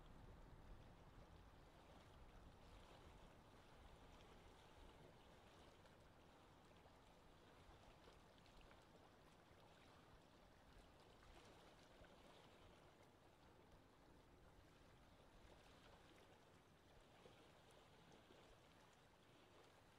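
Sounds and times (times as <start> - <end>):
water gently lapping: 0.0 - 19.9.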